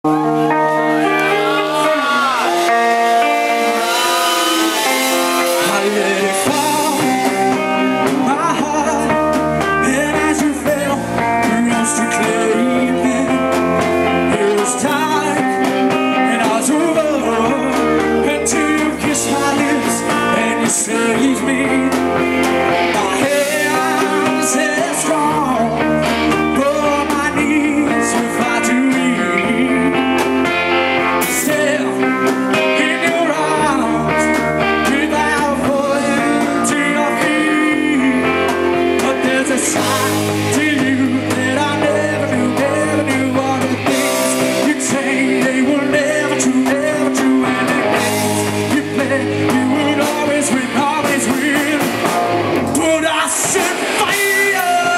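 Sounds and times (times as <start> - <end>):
bass guitar: 0.0 - 54.9
drums: 0.0 - 54.9
electric guitars: 0.0 - 54.9
male singer: 0.1 - 54.9.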